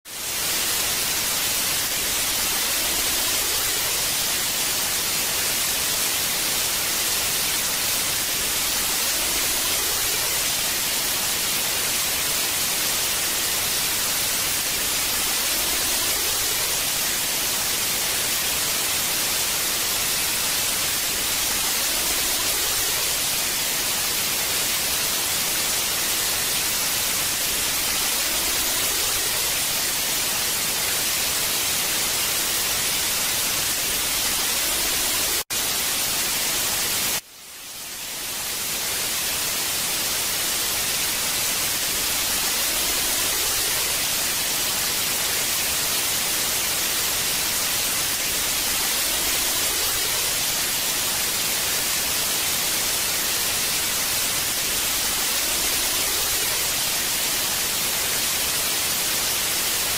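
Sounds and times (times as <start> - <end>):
television static hiss: 0.1 - 59.9.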